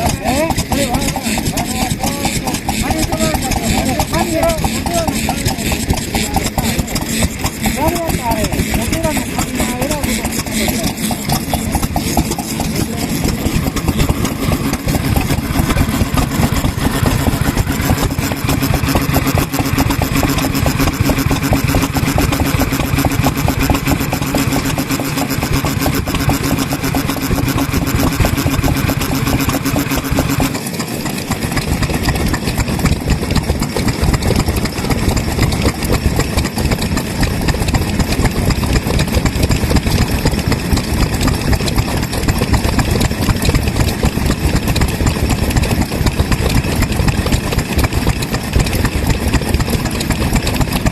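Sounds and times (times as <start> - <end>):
low hum: 0.0 - 50.9
stationary engines running: 0.0 - 50.9.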